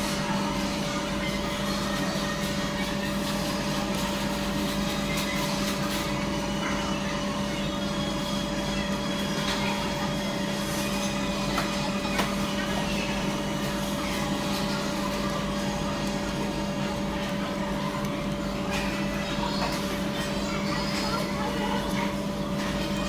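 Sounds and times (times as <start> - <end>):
steady motor hum: 0.0 - 23.0.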